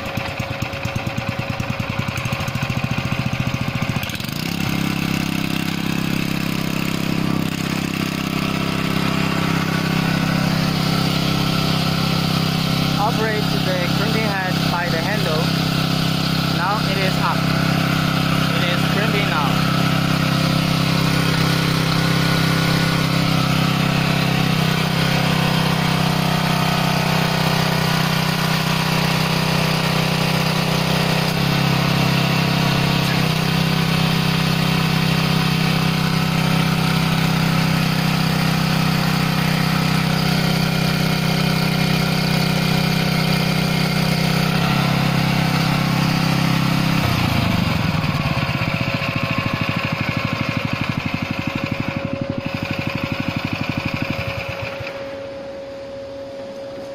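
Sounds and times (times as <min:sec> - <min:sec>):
small gasoline engine running: 0:00.0 - 0:55.5.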